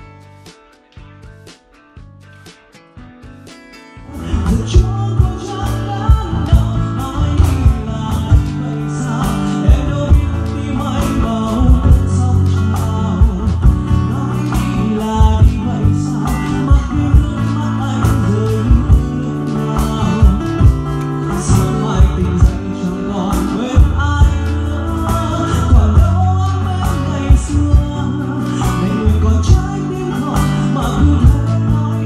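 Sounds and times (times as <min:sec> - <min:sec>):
cajon beat: 0:00.0 - 0:32.0
strummed acoustic guitar: 0:00.0 - 0:32.0
man singing: 0:03.9 - 0:32.0.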